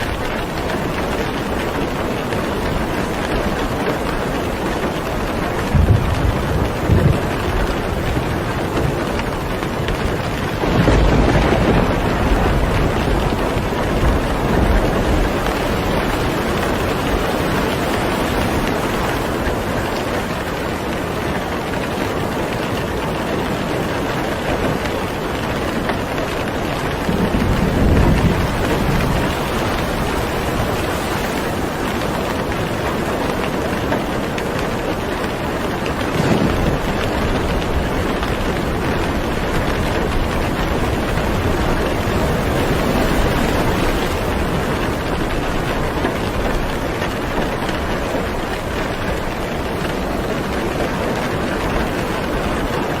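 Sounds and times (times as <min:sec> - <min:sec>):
steady rain: 0:00.0 - 0:53.0
thunder rumbling: 0:00.0 - 0:53.0.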